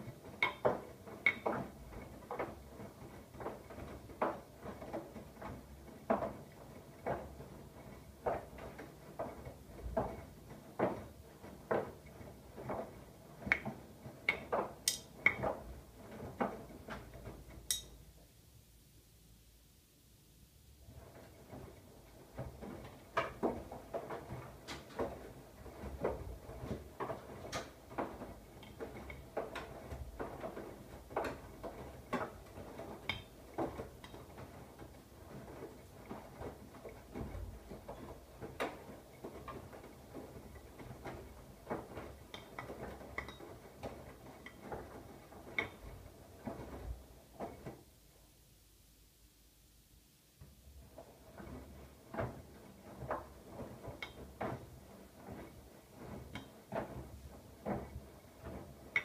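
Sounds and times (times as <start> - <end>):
washing machine load sloshing and thudding: 0.0 - 18.1, 20.8 - 48.0, 50.4 - 59.0.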